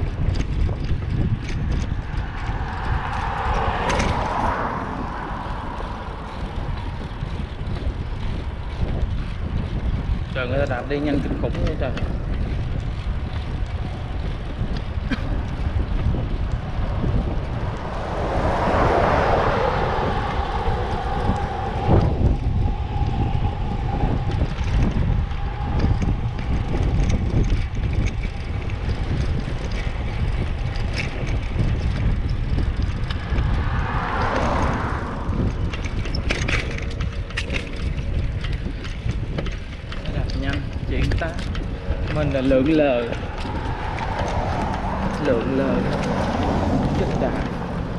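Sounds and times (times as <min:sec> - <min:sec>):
passing vehicle: 0:00.0 - 0:47.9
road noise: 0:00.0 - 0:47.9
wind buffeting microphone: 0:00.0 - 0:47.9.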